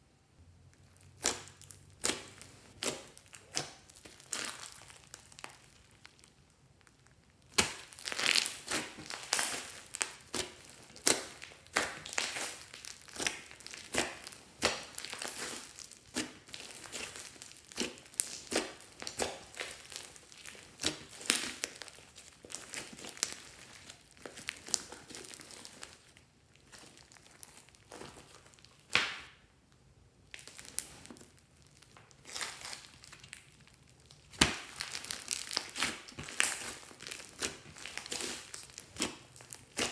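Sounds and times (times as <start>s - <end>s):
hands squeezing wet slime: 0.8s - 29.3s, 30.3s - 39.9s.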